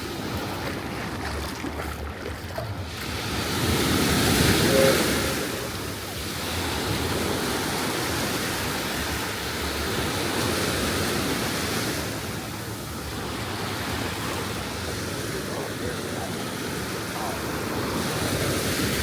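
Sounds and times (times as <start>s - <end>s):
ocean surf on sandy beach: 0.0s - 19.0s.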